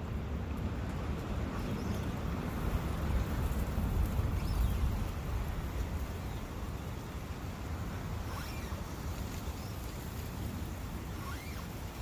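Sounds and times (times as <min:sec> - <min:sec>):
wind blowing: 0:00.0 - 0:12.0.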